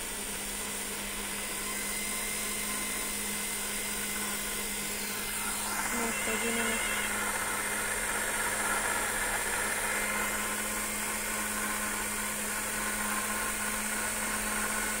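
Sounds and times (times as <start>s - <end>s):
electric motor humming: 0.4s - 15.0s.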